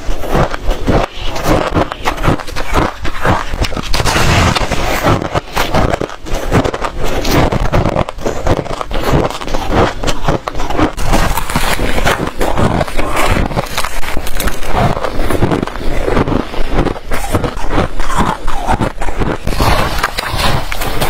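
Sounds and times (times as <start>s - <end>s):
crunching frost being chewed: 0.0s - 21.0s.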